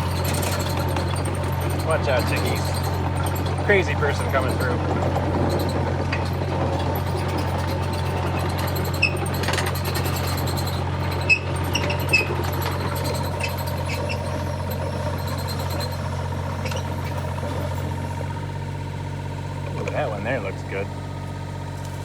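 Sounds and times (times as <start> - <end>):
short squeaks: 0.0 - 18.7
excavator engine running: 0.0 - 22.0.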